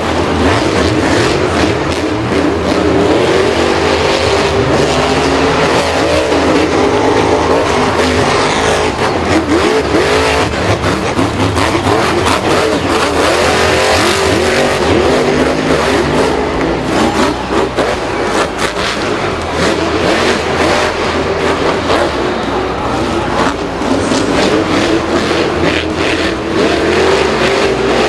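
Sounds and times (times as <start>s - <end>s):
vehicle engines revving: 0.0s - 28.0s.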